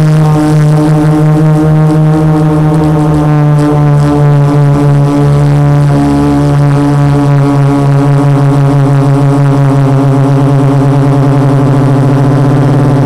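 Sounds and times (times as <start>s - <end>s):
quadcopter motors humming: 0.0s - 13.0s.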